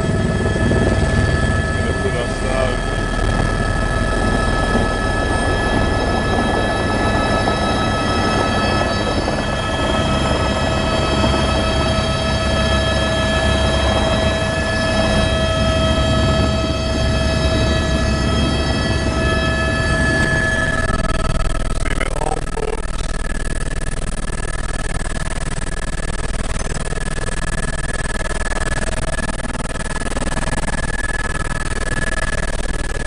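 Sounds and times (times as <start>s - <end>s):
helicopter rotor rumbling: 0.0s - 33.0s
helicopter turbine whine: 0.0s - 33.0s.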